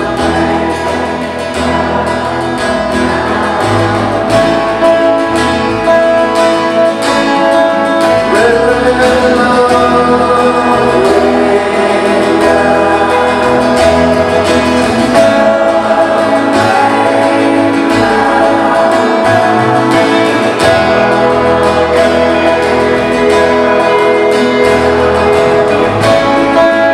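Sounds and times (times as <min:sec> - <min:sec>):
acoustic guitars strumming: 0:00.0 - 0:26.9
person singing melody: 0:00.0 - 0:26.9.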